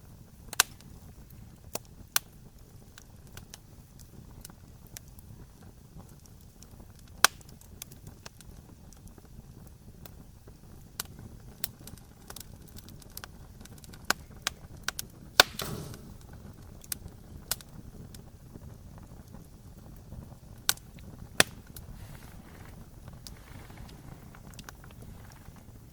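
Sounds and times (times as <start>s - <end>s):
campfire crackling and popping: 0.0s - 25.9s
fire hiss: 0.0s - 25.9s
low rumble of flame: 0.0s - 25.9s.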